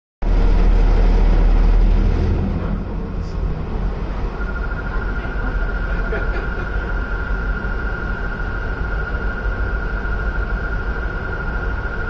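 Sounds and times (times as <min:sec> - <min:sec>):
boat engine low rumble: 0:00.2 - 0:12.0
rushing noise: 0:00.2 - 0:12.0.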